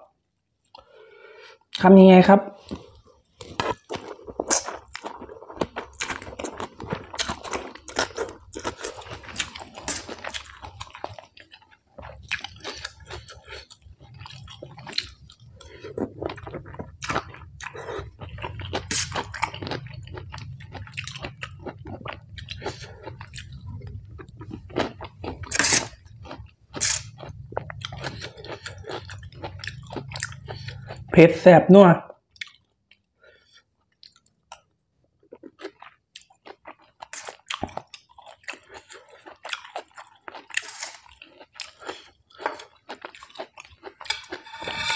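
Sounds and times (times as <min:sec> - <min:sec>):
person chewing crunchy food: 0:02.6 - 0:31.2, 0:32.3 - 0:44.9.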